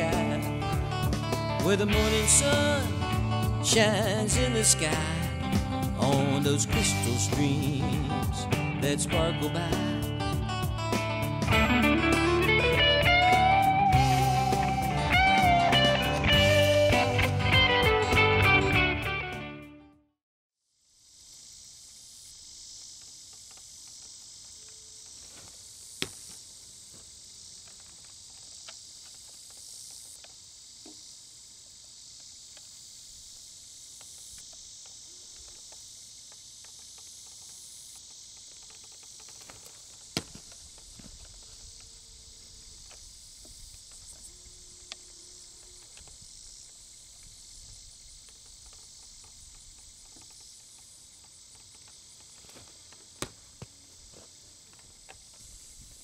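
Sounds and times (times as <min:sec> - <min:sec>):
field insects chorus: 0:00.0 - 0:18.5, 0:20.7 - 0:56.0.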